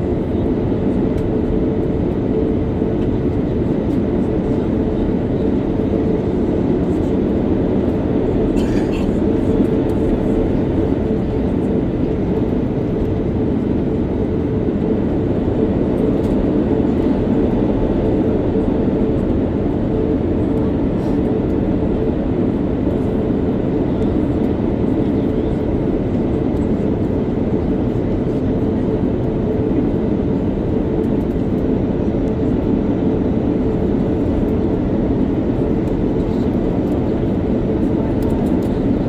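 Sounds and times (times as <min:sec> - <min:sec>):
airplane cabin engine rumble: 0:00.0 - 0:39.0.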